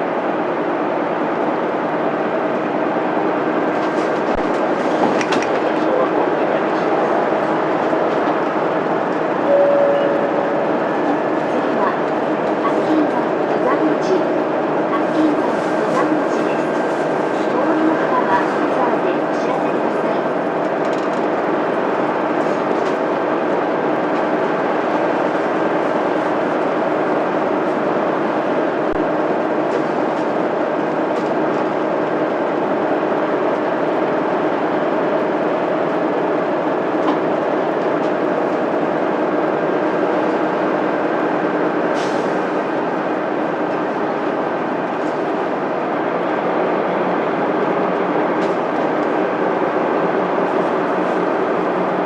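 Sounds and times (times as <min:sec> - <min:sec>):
bus diesel engine running: 0:00.0 - 0:52.0
road and tyre noise: 0:00.0 - 0:52.0.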